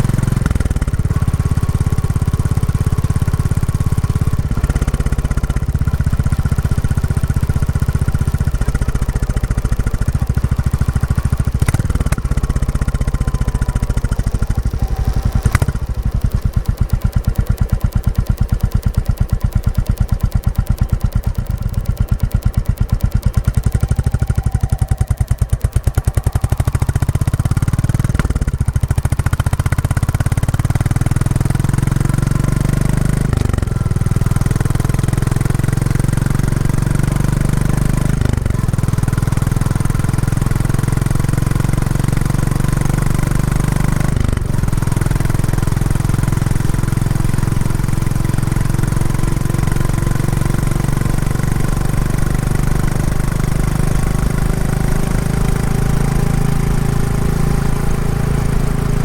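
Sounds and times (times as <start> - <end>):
motorcycle engine thumping: 0.0 - 59.0.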